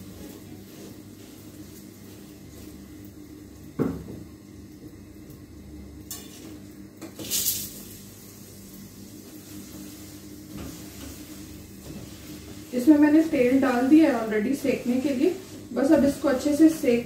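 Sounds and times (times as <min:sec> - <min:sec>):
flatbread sizzling: 0:00.0 - 0:17.0.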